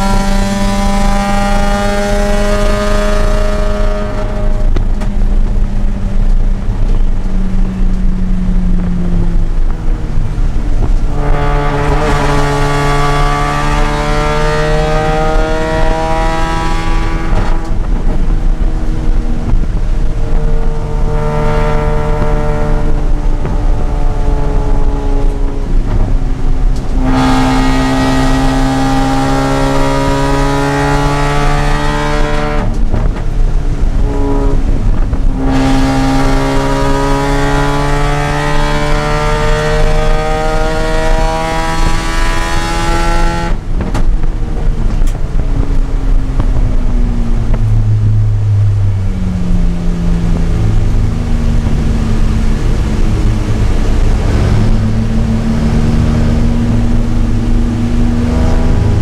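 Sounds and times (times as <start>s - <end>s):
rotary engine revving: 0.0s - 7.9s, 9.2s - 59.0s.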